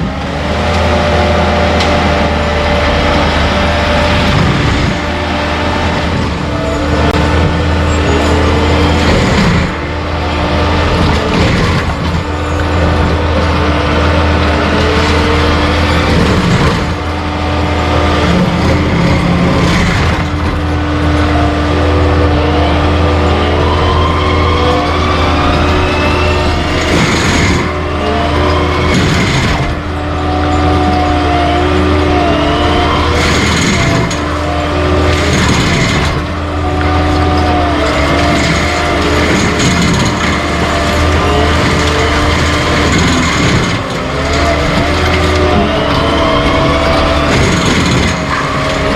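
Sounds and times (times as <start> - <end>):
heavy machine engine running: 0.0 - 48.9
stump grinder grinding: 0.0 - 48.9
whining tones gliding: 0.0 - 48.9.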